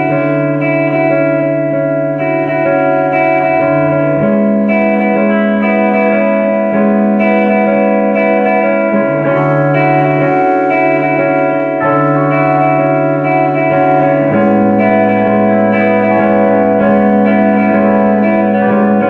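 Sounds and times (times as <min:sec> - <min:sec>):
electric guitars playing: 0:00.0 - 0:19.0.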